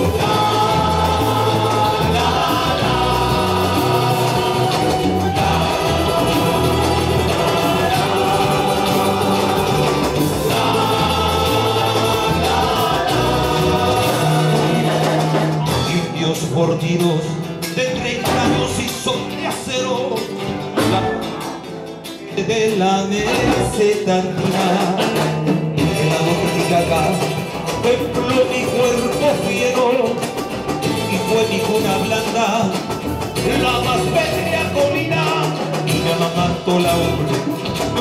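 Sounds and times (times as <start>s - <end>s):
bass line: 0.0s - 19.4s, 23.1s - 38.0s
men singing together: 0.0s - 21.2s, 22.4s - 38.0s
acoustic and electric guitars: 0.0s - 38.0s.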